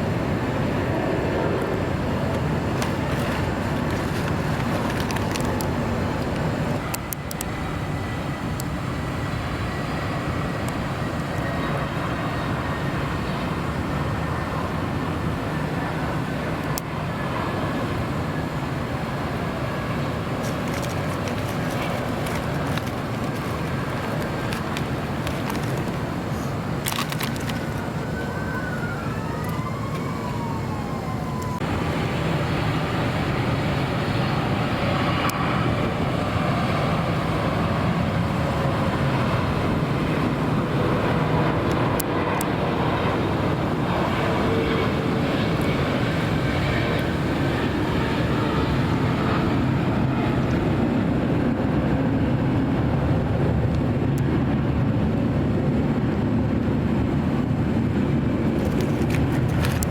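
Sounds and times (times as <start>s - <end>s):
jet airliner noise: 0.0s - 59.9s
road traffic: 0.0s - 59.9s.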